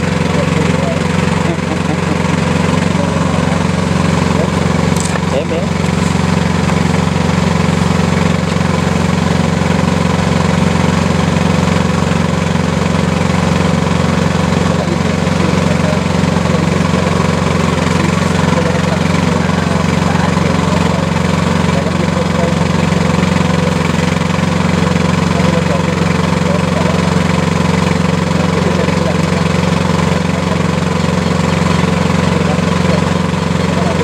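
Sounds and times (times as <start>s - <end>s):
small engine running steadily: 0.0s - 34.0s.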